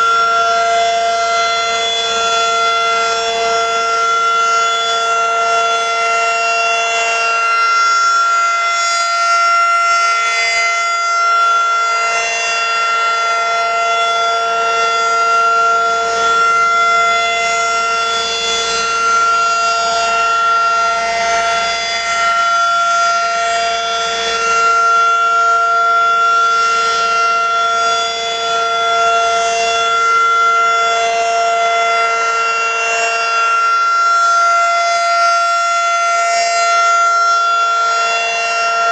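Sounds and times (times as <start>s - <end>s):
outdoor warning siren steady tone: 0.0s - 38.9s.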